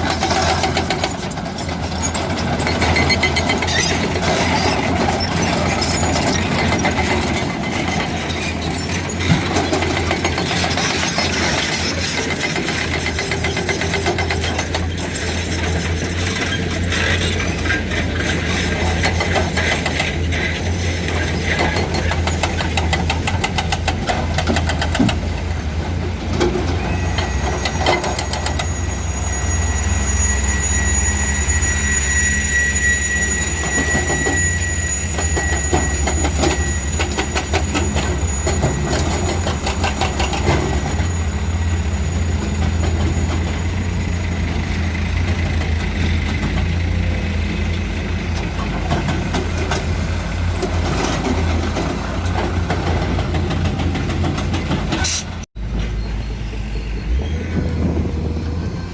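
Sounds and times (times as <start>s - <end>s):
excavator diesel engine droning: 0.0s - 58.9s.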